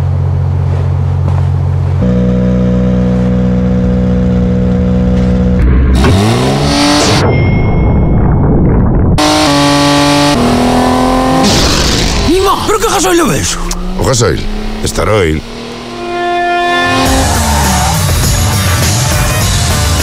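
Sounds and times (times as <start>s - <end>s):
rally car engine revving: 1.8s - 7.3s, 9.2s - 20.0s.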